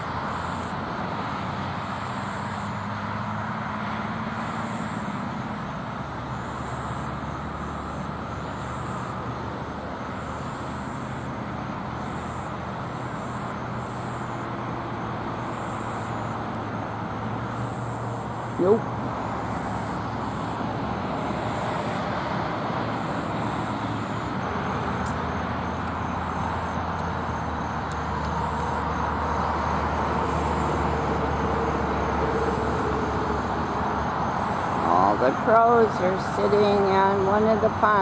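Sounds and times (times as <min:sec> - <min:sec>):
distant engines droning: 0:00.0 - 0:38.0.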